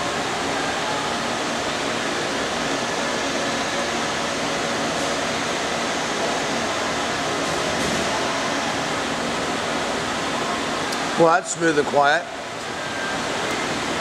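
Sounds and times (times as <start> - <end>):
lathe whirring: 0.0 - 14.0.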